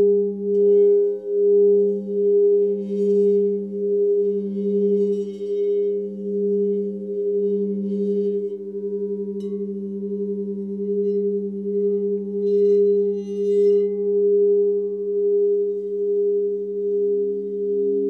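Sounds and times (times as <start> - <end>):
faint high ringing notes: 0.0 - 18.0
sustained pure tone drone: 0.0 - 18.0.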